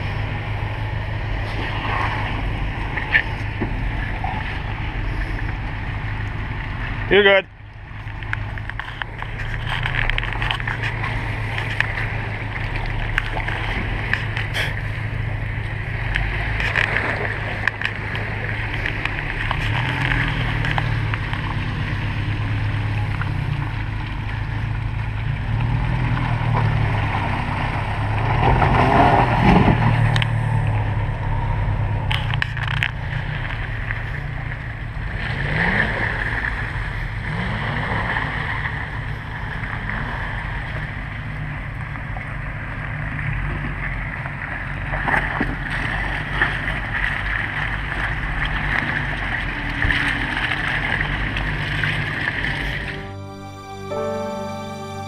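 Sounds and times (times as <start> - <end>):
car engine running at low revs: 0.0 - 53.0.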